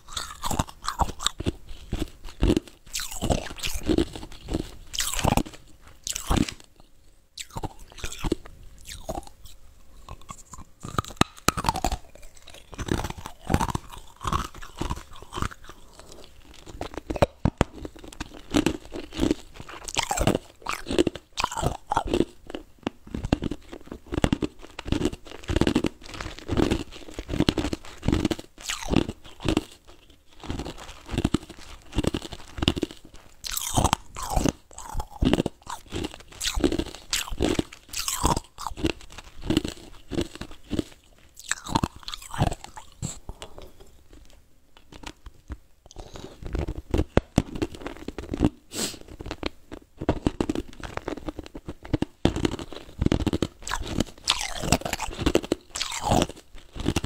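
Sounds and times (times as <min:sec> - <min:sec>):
person crunching ice: 0:00.0 - 0:06.7, 0:07.4 - 0:09.3, 0:10.1 - 0:43.8, 0:45.9 - 0:57.0.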